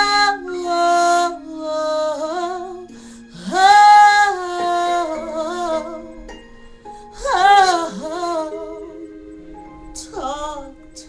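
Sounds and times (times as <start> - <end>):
woman singing gospel ballad: 0.0 - 6.2, 7.2 - 9.2, 10.0 - 11.0
soft accompaniment notes: 0.0 - 11.0.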